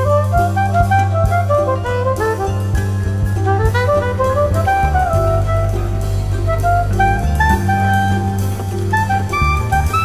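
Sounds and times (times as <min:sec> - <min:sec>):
jazz music with saxophone: 0:00.0 - 0:10.0.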